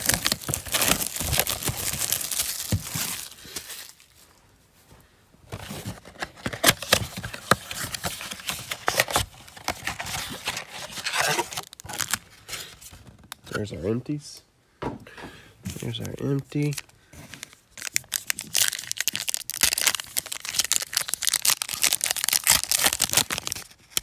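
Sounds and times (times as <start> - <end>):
wrapping and cardboard crinkling: 0.0 - 4.3, 5.5 - 13.6, 15.7 - 24.0.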